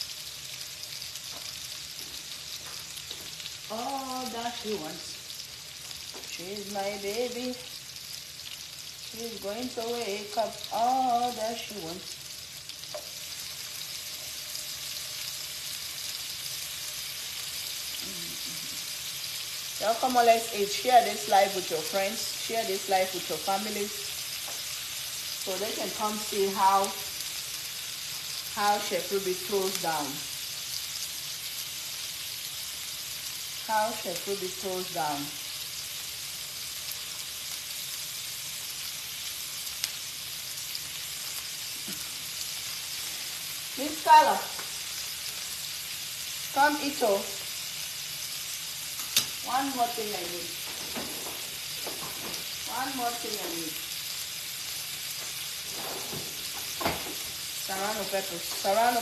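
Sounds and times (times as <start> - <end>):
onions and tomato sizzling in oil: 0.0 - 59.0.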